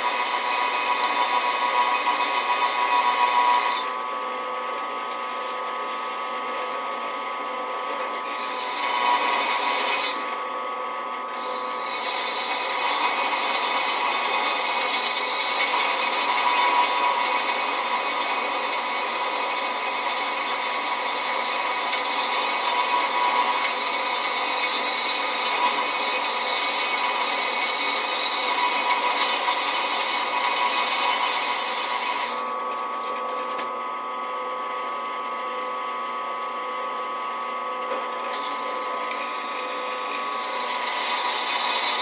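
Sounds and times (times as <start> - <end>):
drill press boring steel: 0.0 - 42.0.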